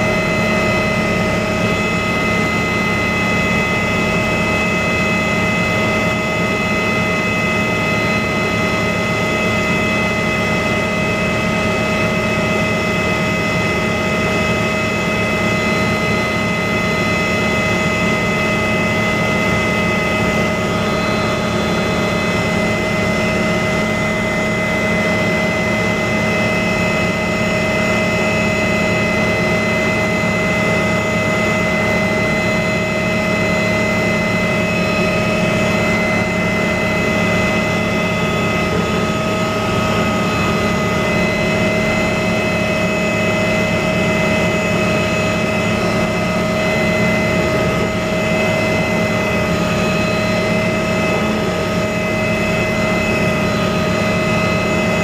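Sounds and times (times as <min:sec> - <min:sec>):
aircraft engine hum: 0:00.0 - 0:55.0
steady whining tones: 0:00.0 - 0:55.0.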